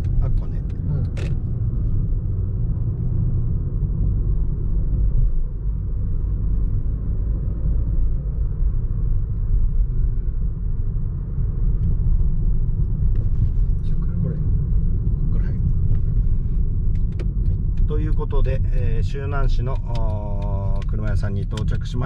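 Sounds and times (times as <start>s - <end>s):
car interior road rumble: 0.0s - 22.0s.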